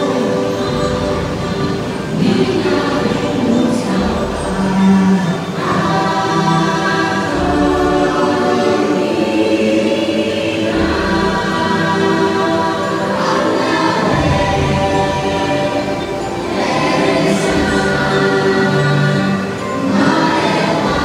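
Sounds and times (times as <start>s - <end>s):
choir-like singing: 0.0s - 21.0s
sustained music chords: 0.0s - 21.0s.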